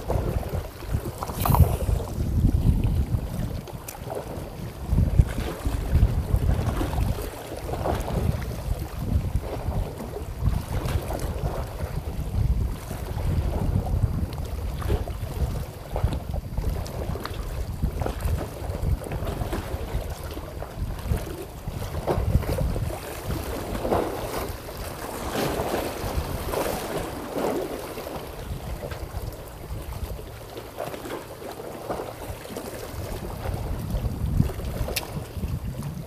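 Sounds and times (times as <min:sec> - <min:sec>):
wind buffeting microphone: 0:00.0 - 0:31.1, 0:31.8 - 0:36.0
sea water washing against breakwater: 0:00.0 - 0:36.0.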